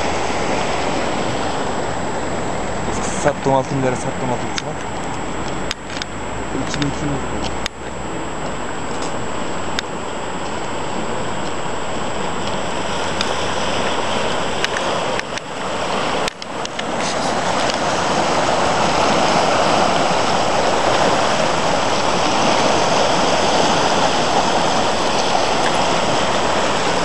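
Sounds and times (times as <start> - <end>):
floodwater rushing and churning: 0.0 - 27.0.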